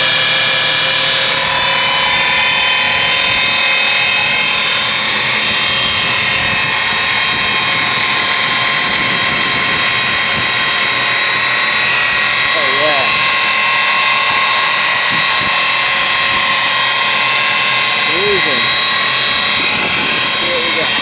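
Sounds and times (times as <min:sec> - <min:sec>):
motor whining: 0:00.0 - 0:21.0.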